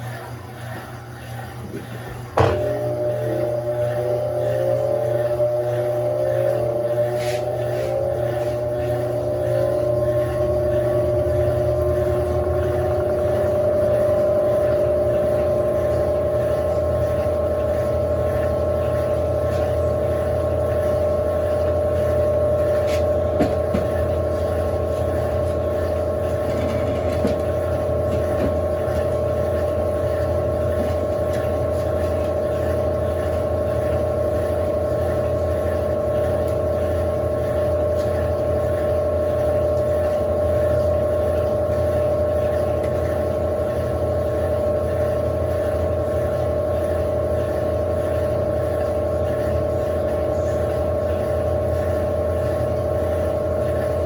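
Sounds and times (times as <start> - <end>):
washing machine spinning: 0.0 - 54.0.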